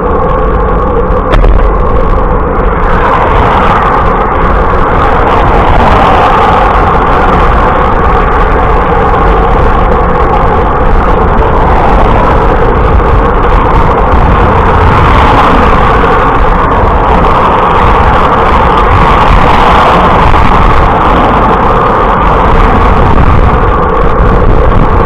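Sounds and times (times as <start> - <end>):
road noise: 0.0 - 25.0
wind rushing: 0.0 - 25.0.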